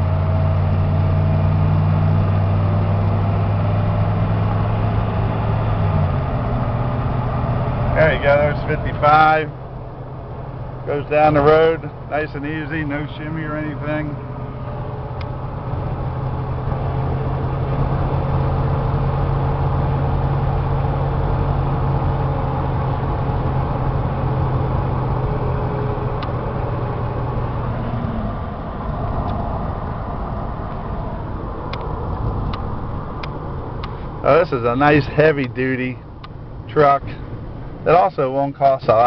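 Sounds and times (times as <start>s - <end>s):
diesel engine drone: 0.0s - 39.0s
road noise inside vehicle: 0.0s - 39.0s.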